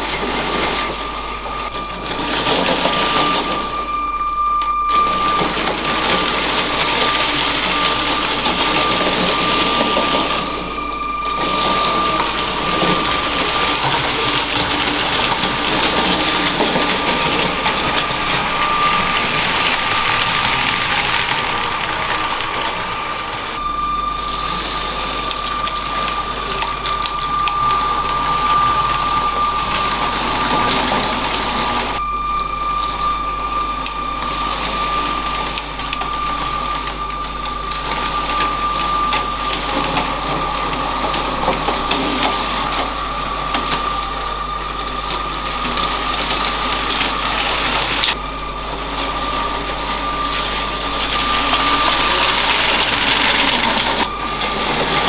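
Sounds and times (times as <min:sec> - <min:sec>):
plastic wheels rattling on track: 0:00.0 - 0:32.0, 0:32.8 - 0:55.0
electric motor whine: 0:00.0 - 0:55.0.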